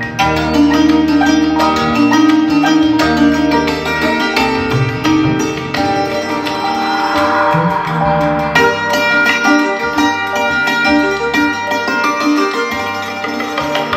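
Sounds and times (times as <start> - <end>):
indian classical plucked strings: 0.0 - 13.9.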